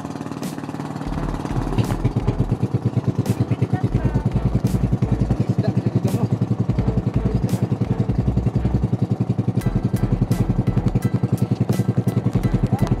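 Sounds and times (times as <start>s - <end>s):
boat engine putt-putt: 0.0s - 13.0s.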